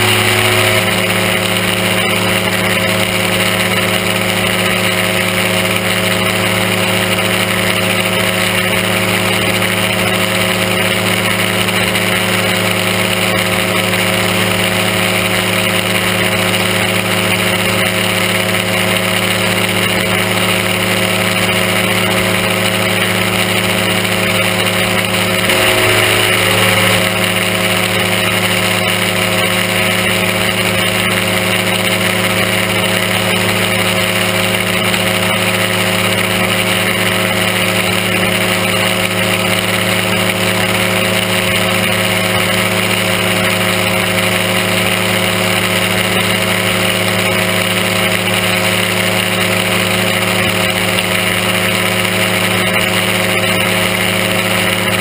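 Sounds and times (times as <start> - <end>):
engine and propeller running: 0.0 - 55.0.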